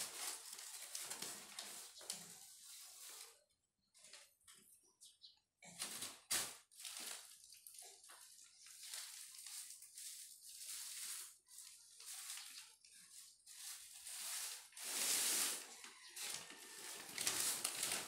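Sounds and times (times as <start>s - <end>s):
crumpled plastic sheet crinkling: 0.0s - 3.3s, 5.8s - 18.0s.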